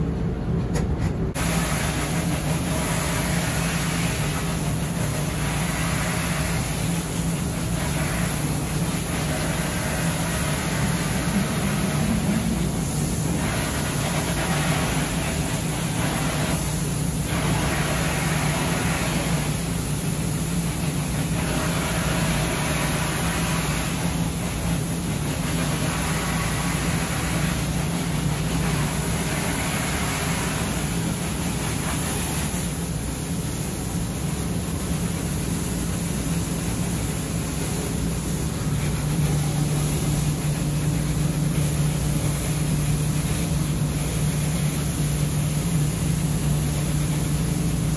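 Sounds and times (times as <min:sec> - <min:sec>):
machinery hum: 0:00.0 - 0:47.9
hiss: 0:01.4 - 0:47.9.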